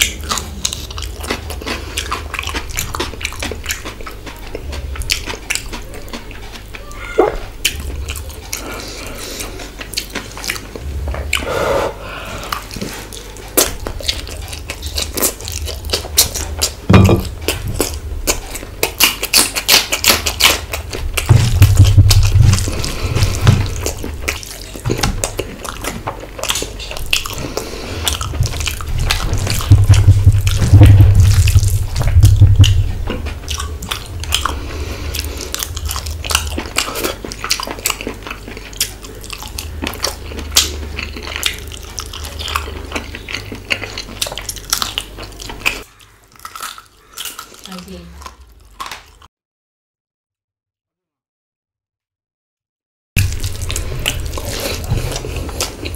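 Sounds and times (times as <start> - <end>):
chewing: 0.0 - 49.3, 53.2 - 55.9.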